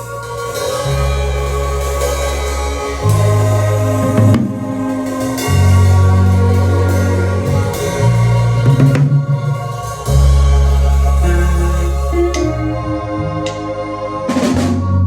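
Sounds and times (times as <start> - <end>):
drum kit hits: 0.0 - 12.6
band playing: 0.0 - 15.0
low bass notes: 0.0 - 15.0.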